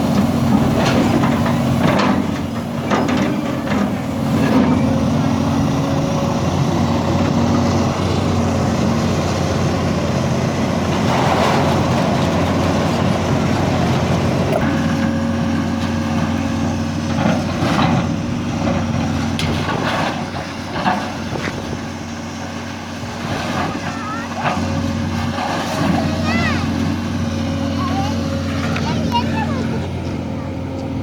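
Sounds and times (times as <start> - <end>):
crusher engine drone: 0.0 - 31.0.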